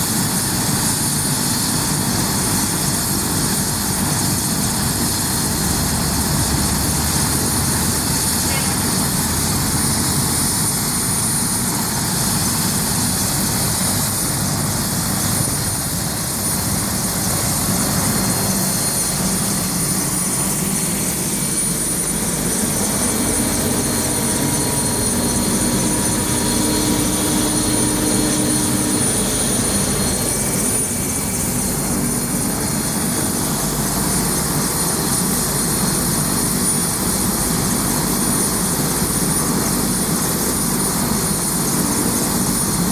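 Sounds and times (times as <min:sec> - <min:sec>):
helicopter engine and rotor noise: 0:00.0 - 0:42.9
helicopter turbine whine: 0:00.0 - 0:42.9.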